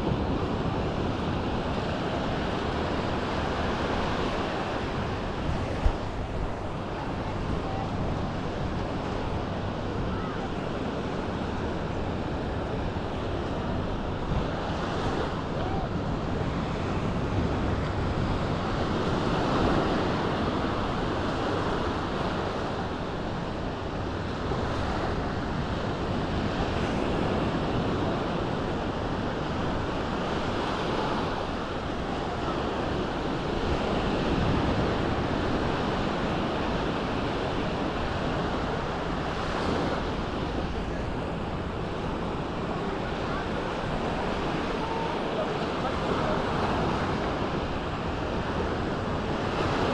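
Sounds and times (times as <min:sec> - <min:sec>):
sea waves washing onto beach: 0:00.0 - 0:49.9
wind noise on microphone: 0:00.0 - 0:49.9.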